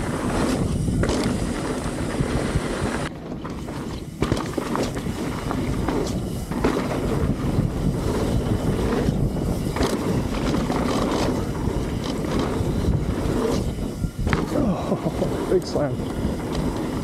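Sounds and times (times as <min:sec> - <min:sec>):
tyre rumble: 0:00.0 - 0:15.5
bike knocks and rattles: 0:00.0 - 0:17.0
wind on microphone: 0:00.0 - 0:17.0.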